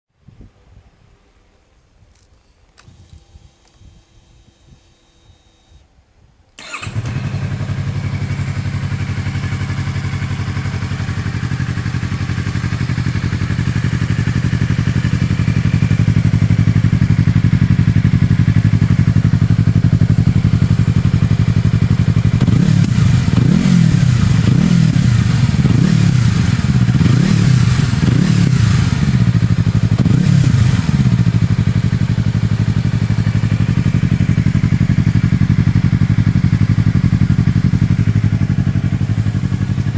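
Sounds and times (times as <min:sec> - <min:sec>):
motorcycle engine idling and revving: 0:06.6 - 0:39.9.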